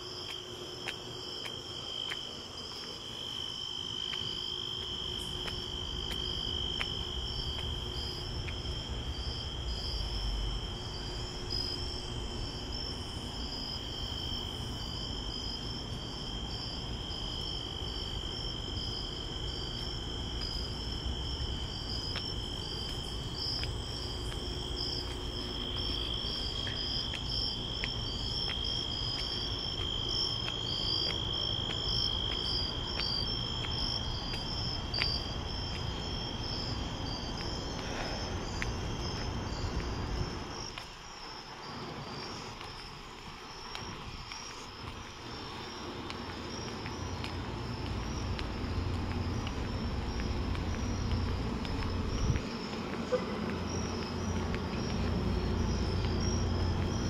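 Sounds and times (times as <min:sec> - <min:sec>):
cricket trilling: 0:00.0 - 0:57.0
insect rapid chirps: 0:00.0 - 0:57.0.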